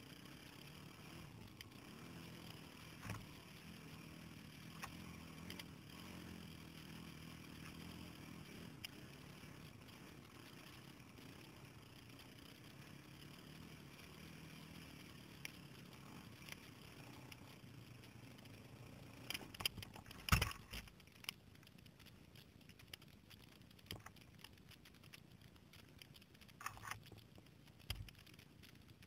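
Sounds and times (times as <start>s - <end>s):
faint low engine drone: 0.0s - 29.0s.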